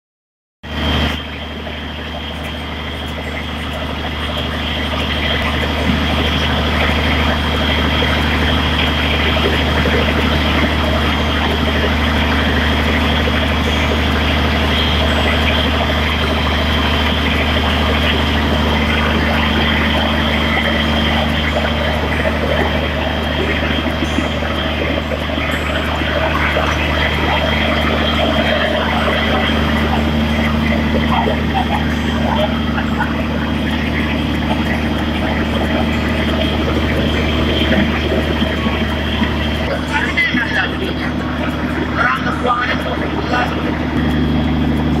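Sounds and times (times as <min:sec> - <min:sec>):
diesel generator running: 0:00.6 - 0:45.0
thin high whine: 0:00.7 - 0:45.0.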